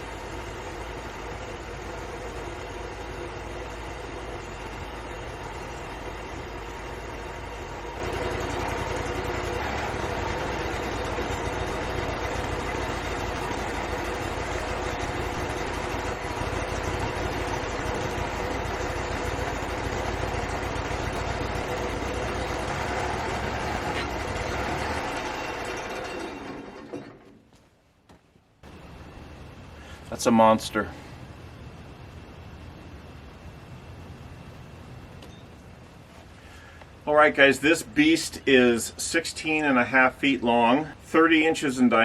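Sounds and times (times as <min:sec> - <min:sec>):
sawmill engine running: 0:00.0 - 0:27.4, 0:28.6 - 0:42.0.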